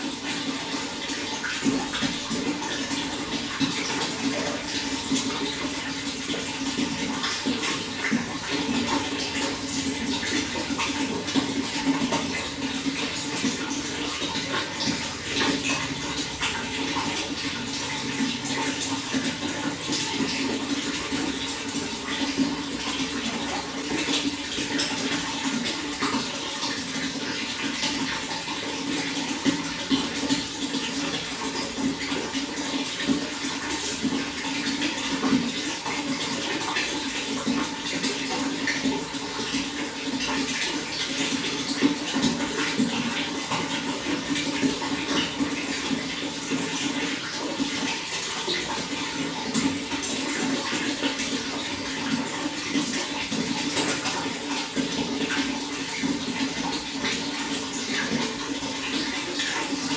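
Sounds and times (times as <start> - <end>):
running water flowing: 0.0 - 59.9
small water splashes: 0.0 - 59.9.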